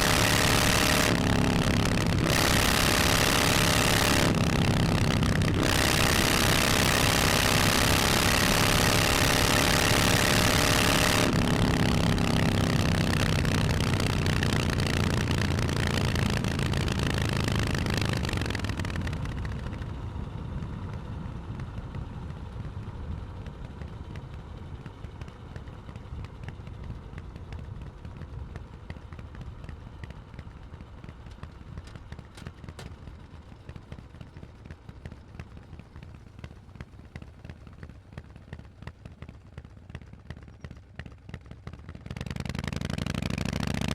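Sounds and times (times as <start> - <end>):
motorcycle engine: 0.0 - 43.9
motorcycle engine idling: 0.0 - 43.9.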